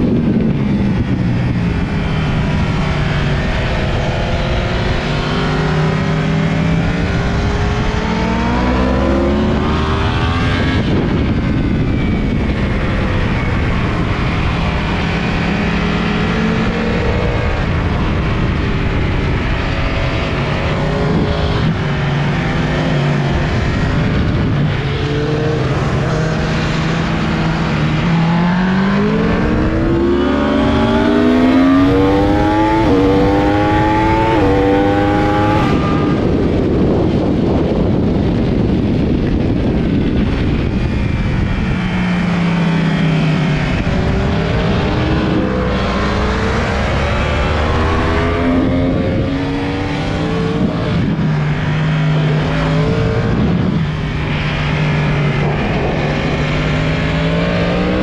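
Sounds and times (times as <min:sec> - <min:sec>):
motorcycle engine revving: 0:00.0 - 0:58.0
wind buffeting microphone: 0:00.0 - 0:58.0.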